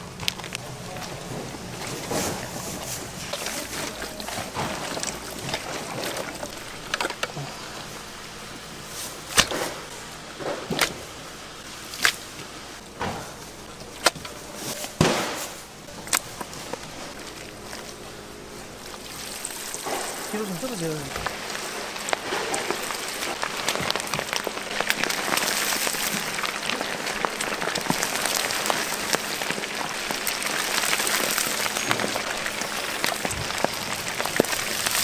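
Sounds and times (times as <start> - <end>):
chicken frying in hot oil: 0.0 - 35.0.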